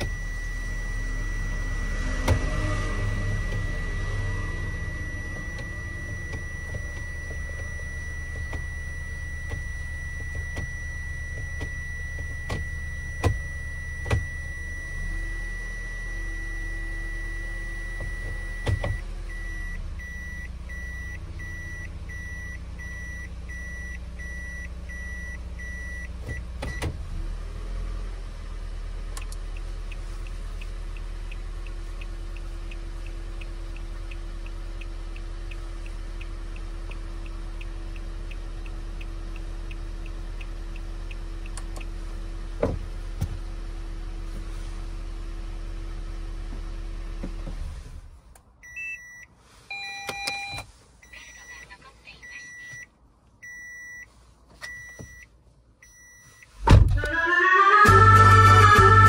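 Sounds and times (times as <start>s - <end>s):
shifter click: 0.0s - 27.0s, 29.1s - 43.4s, 46.5s - 50.8s, 52.4s - 57.2s
car engine idling: 0.0s - 48.4s.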